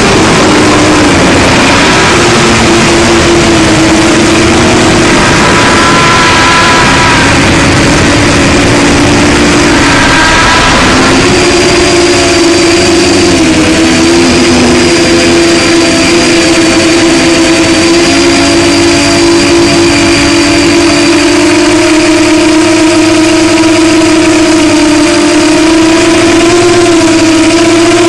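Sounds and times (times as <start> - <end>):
rushing air noise: 0.0 - 23.3
drone motors whining: 0.0 - 28.0.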